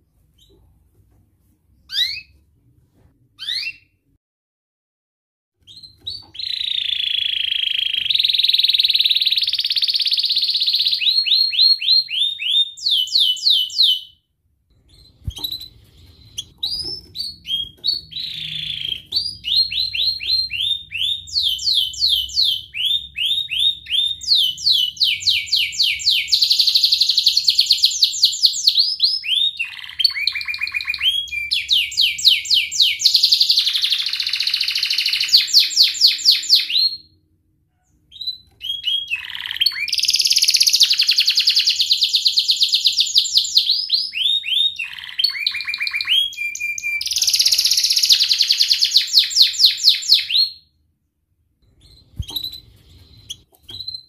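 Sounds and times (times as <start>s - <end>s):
canary singing: 1.8s - 2.4s, 3.4s - 4.1s, 5.6s - 37.2s, 37.8s - 50.7s, 51.6s - 54.0s.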